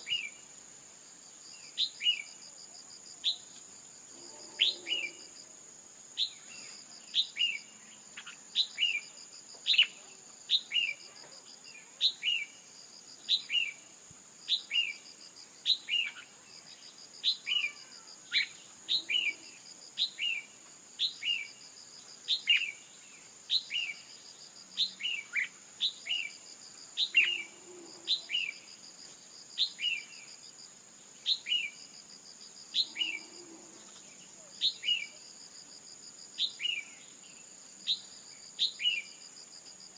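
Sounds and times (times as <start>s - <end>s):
high insect-like whine: 0.0s - 39.9s.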